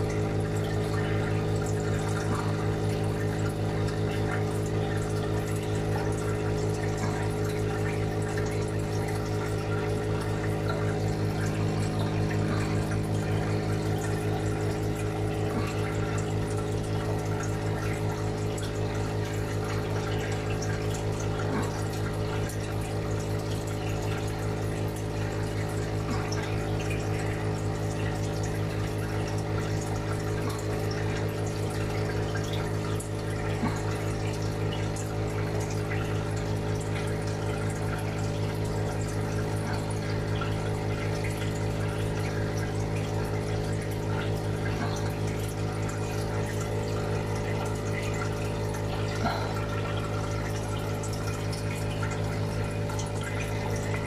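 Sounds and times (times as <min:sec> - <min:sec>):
aquarium filter pump humming: 0:00.0 - 0:54.0
water trickling and bubbling: 0:00.0 - 0:54.0.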